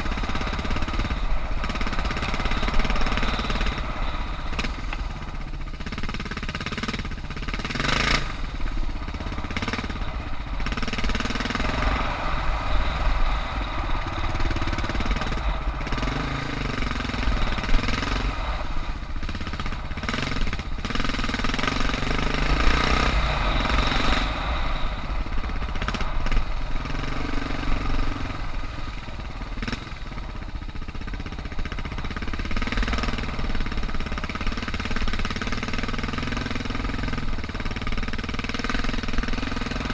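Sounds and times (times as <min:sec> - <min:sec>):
motorcycle engine running: 0:00.0 - 0:39.9
wind: 0:00.0 - 0:39.9.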